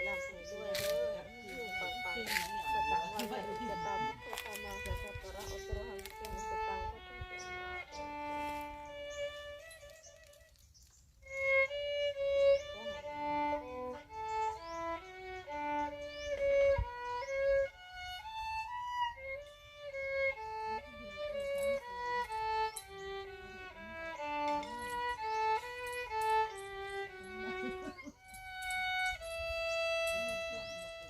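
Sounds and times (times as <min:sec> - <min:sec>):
solo violin classical melody: 0:00.0 - 0:31.0.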